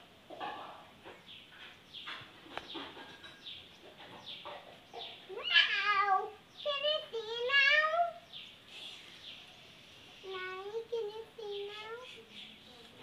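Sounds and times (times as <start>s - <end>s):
birds chirping: 0.3s - 10.8s.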